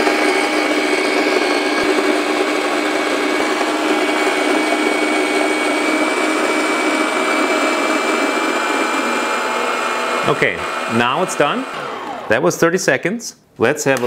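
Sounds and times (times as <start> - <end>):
coffee grinder motor whirring: 0.0 - 12.3.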